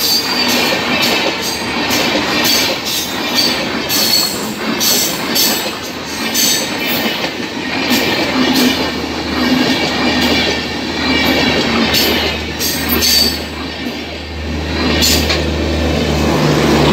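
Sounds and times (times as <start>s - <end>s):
train wheels rumbling on rails: 0.0s - 16.9s
wheels clattering over rail joints: 0.0s - 16.9s.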